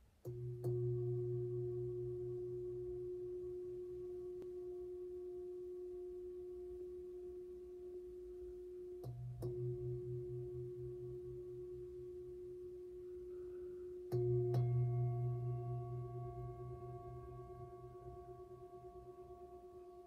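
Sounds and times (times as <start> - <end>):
singing bowl ringing: 0.3 - 20.0.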